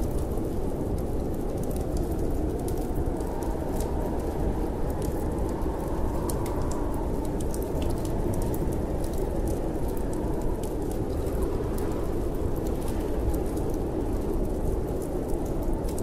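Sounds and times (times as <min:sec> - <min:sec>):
storm wind rushing: 0:00.0 - 0:16.0
wood fire crackling and popping: 0:00.0 - 0:16.0.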